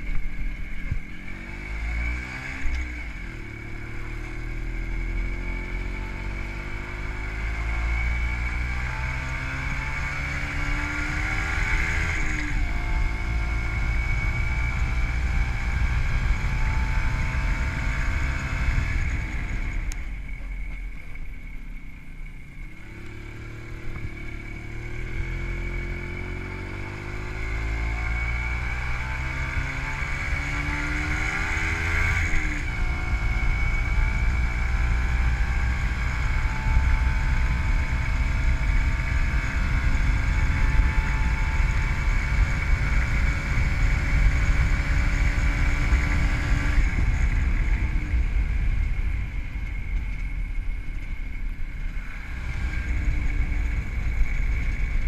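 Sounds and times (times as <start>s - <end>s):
two-stroke engine under throttle: 0.0s - 20.7s, 21.3s - 55.0s
wind rumble on microphone: 0.0s - 55.0s.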